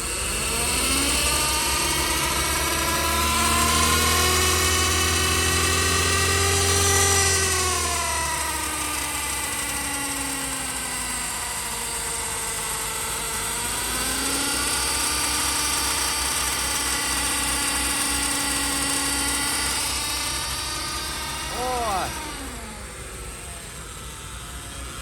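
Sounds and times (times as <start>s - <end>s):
gearbox whining loudly: 0.0s - 25.0s
steady engine hum: 0.0s - 25.0s.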